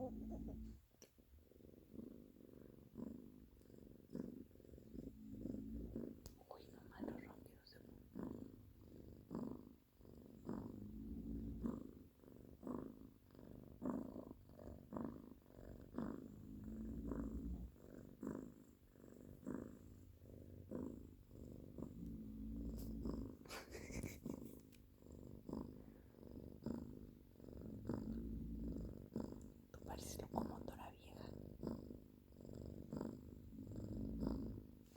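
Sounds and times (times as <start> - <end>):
pets snoring: 0.0 - 34.9.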